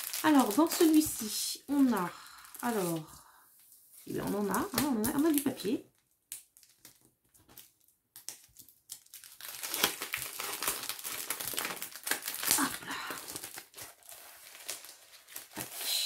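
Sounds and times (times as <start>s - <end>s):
packaging crinkling: 0.0s - 3.1s, 4.2s - 16.0s.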